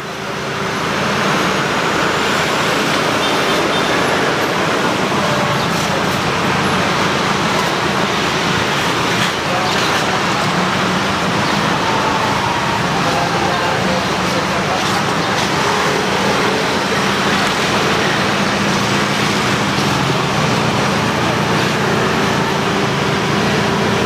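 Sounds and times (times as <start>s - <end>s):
gas burner roaring: 0.0s - 24.0s.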